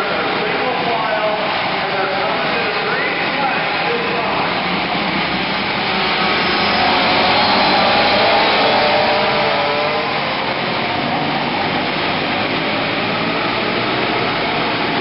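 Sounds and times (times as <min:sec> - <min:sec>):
small racing engines whining: 0:00.0 - 0:15.0.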